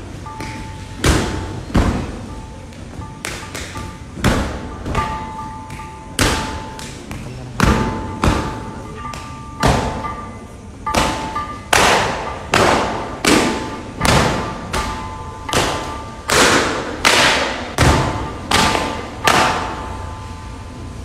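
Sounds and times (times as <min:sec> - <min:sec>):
heavy echoing thuds: 0:00.0 - 0:20.1
faint steady hum: 0:00.0 - 0:21.0.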